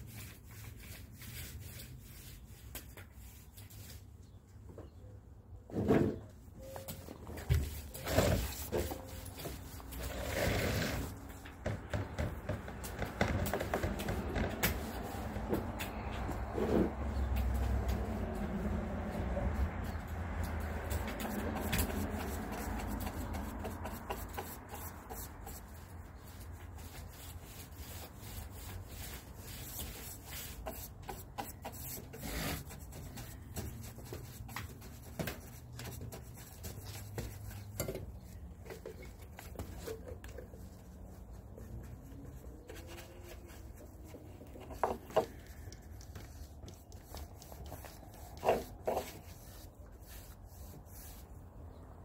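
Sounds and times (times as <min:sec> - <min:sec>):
paint roller rubbing on wood: 0:00.0 - 0:04.2, 0:07.4 - 0:51.6.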